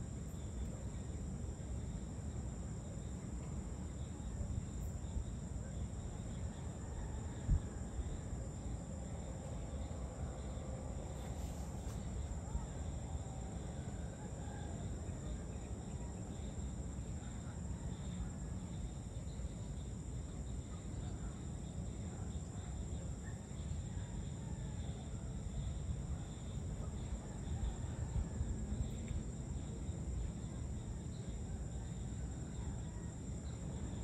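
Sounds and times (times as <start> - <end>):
crickets and insects trilling: 0.0 - 34.0.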